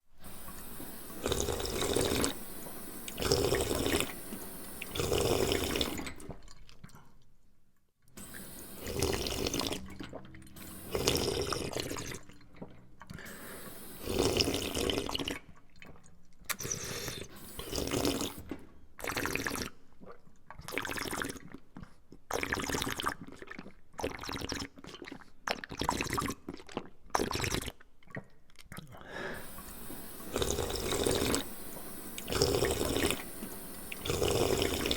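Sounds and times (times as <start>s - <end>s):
person gulping a drink: 0.2s - 7.4s, 8.8s - 34.9s.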